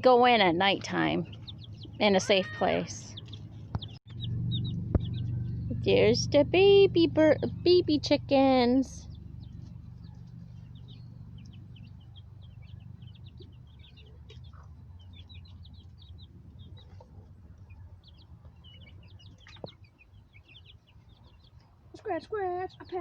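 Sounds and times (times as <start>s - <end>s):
baby chicks peeping: 0.0s - 23.0s
steady low hum: 0.0s - 23.0s.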